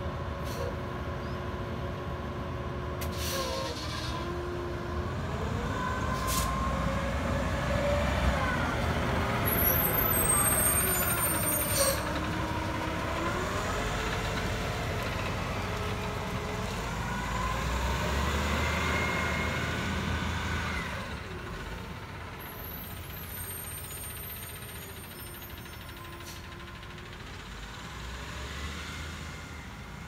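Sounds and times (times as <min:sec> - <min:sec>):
bus engine pulling away: 0:00.0 - 0:30.0.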